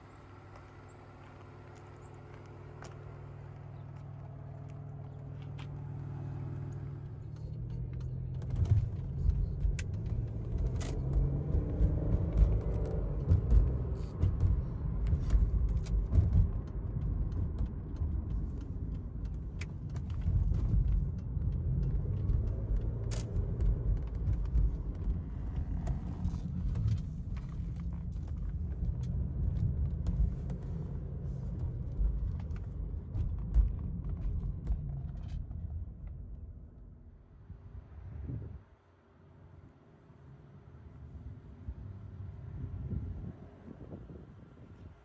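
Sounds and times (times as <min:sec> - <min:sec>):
car engine running: 0:00.0 - 0:45.0
road rumble: 0:00.0 - 0:45.0.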